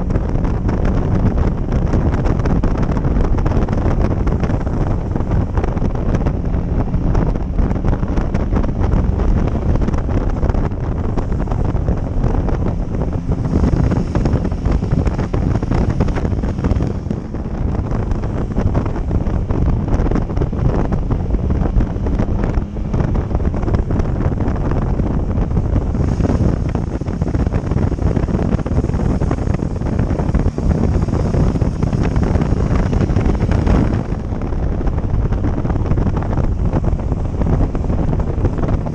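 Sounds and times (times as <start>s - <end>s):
motorcycle engine: 0.0s - 38.9s
road noise: 0.0s - 38.9s
wind buffeting microphone: 0.0s - 38.9s.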